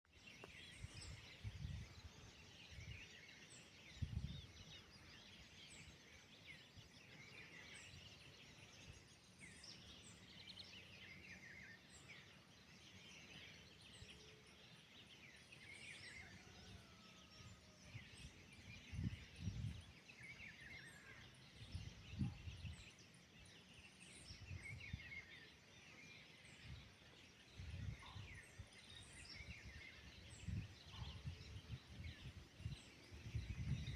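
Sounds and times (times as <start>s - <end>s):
faint birdsong: 0.0s - 33.9s.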